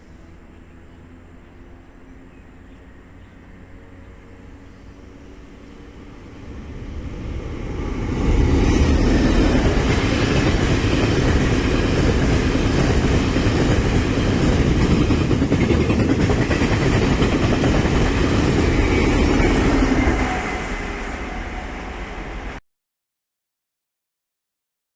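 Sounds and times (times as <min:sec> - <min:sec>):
train rumbling over a steel bridge: 0:00.0 - 0:22.6.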